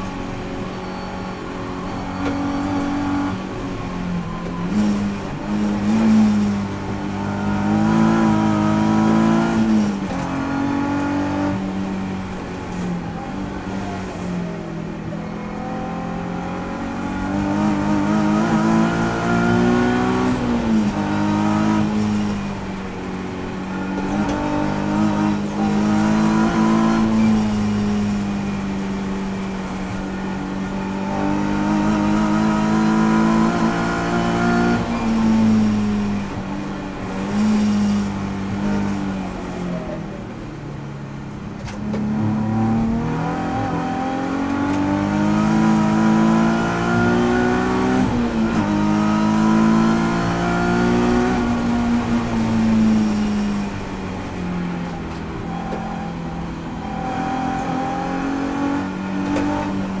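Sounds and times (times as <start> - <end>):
race car engine accelerating: 0.0 - 40.1, 41.6 - 60.0.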